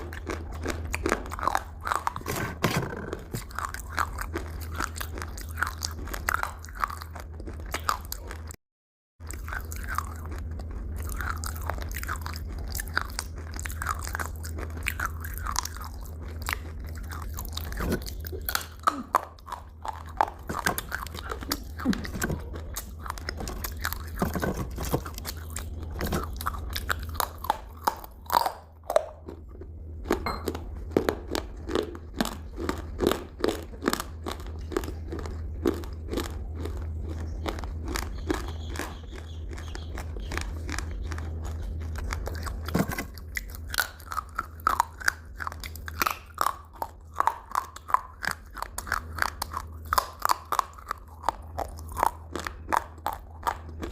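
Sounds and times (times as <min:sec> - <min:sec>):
person chewing crunchy food: 0:00.0 - 0:08.6, 0:09.2 - 0:53.9.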